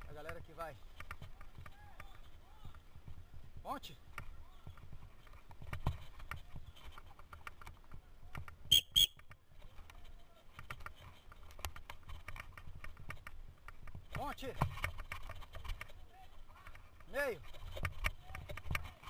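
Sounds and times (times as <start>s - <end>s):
bike rattling over dirt trail: 0.0s - 19.0s.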